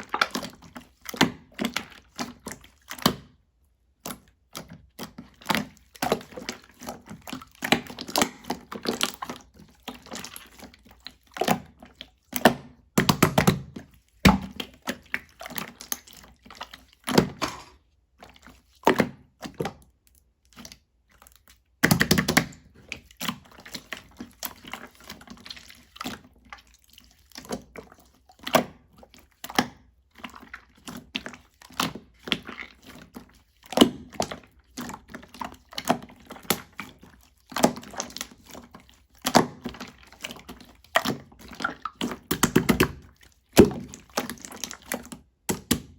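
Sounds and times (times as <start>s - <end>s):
slime squishing by hand: 0.0s - 45.9s.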